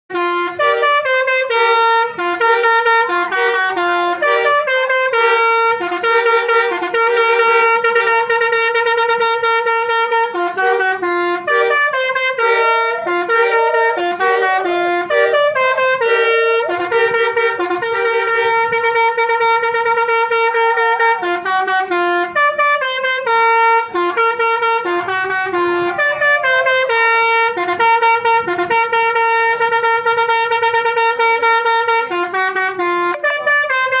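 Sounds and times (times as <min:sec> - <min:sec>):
multi-tone horn melody: 0:00.1 - 0:34.0.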